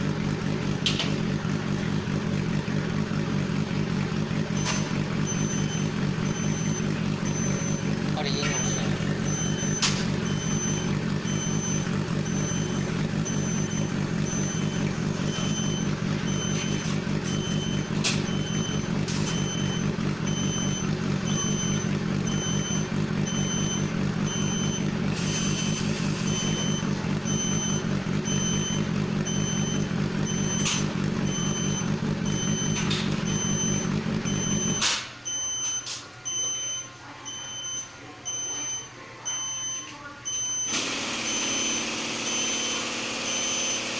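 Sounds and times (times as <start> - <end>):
low mechanical hum: 0.0 - 42.6
high electronic beeps: 4.6 - 43.9.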